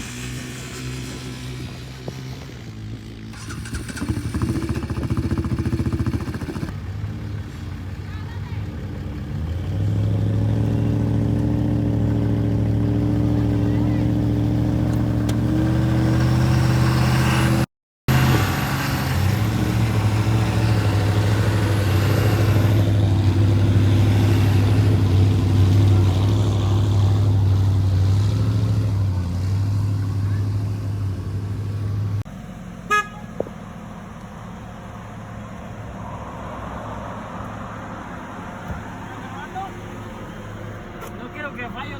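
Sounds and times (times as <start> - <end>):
truck engine droning: 0.0 - 41.9.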